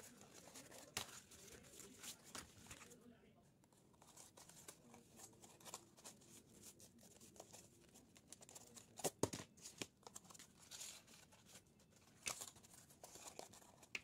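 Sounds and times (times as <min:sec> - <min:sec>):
paper rustling and crinkling: 0:00.0 - 0:03.0, 0:03.8 - 0:14.0.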